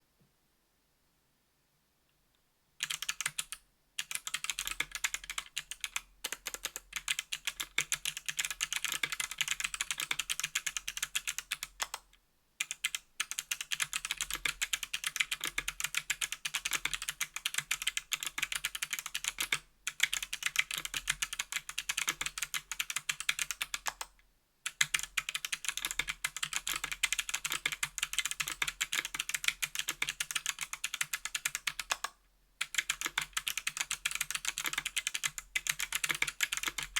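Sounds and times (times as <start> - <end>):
fast clicky keyboard typing: 2.8 - 12.0, 12.6 - 24.1, 24.7 - 36.9.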